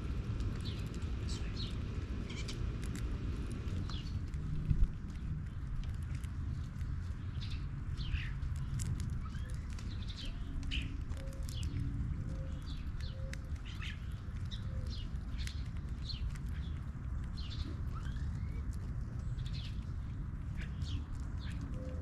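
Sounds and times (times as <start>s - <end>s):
low rumble: 0.0s - 22.0s
small birds chirping: 0.0s - 22.0s.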